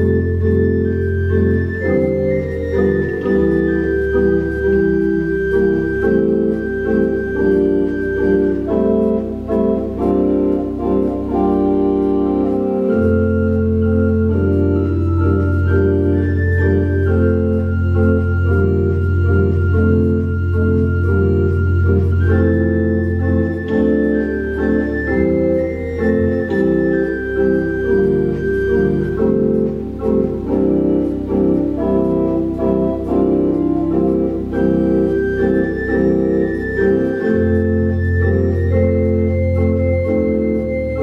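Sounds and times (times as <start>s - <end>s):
organ chords: 0.0s - 41.0s.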